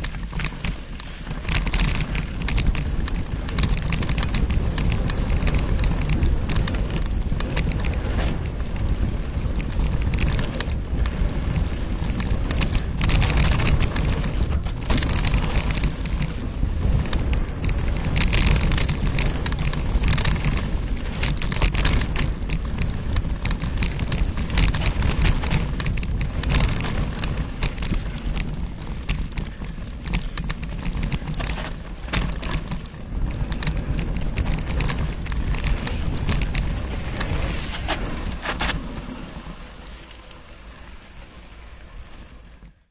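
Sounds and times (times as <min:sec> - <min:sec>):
bike clicks and rattles: 0:00.0 - 0:42.9
bike tyres on dirt: 0:00.0 - 0:42.9
wind rumble on microphone: 0:00.0 - 0:42.9.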